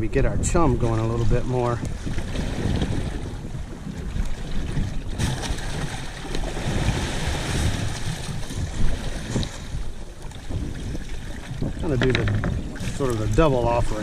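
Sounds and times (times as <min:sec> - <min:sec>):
water slapping boat hull: 0:00.0 - 0:14.0
wind on microphone: 0:00.0 - 0:14.0.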